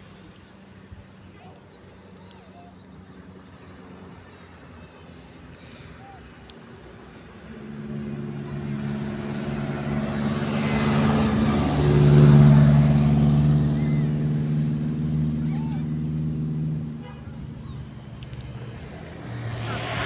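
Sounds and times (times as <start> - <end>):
vehicle engine hum: 0.1 - 20.0.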